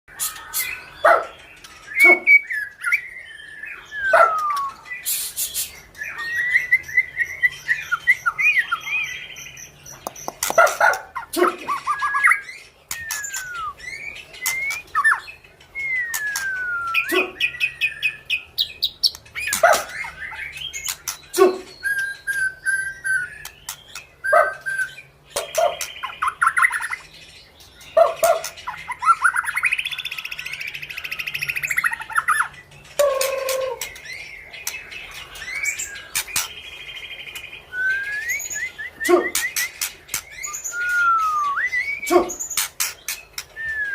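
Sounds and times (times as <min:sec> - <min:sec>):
bird singing whistled song: 0:00.1 - 0:27.2, 0:28.0 - 0:43.9.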